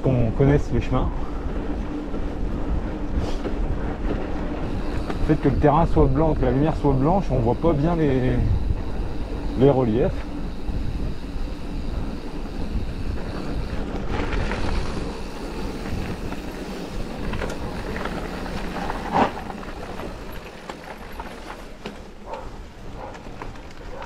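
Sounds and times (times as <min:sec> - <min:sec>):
bike rattling: 0:00.0 - 0:24.0
tyres rumbling on dirt: 0:00.0 - 0:24.0
wind on microphone: 0:01.0 - 0:20.4.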